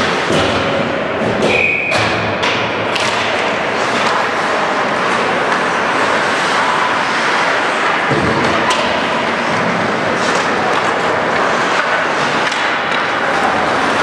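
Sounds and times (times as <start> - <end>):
ice hockey rink ambience: 0.0 - 14.0.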